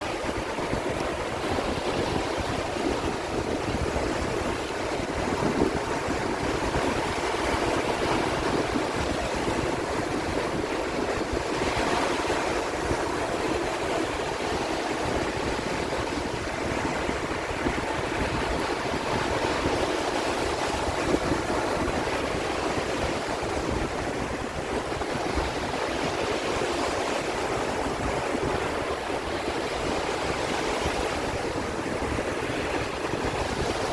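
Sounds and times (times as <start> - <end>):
sea waves surf: 0.0 - 33.9.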